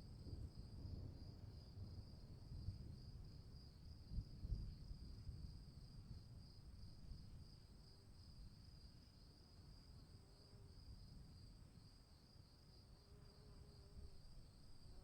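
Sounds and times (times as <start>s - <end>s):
crickets chirping: 0.2s - 15.0s.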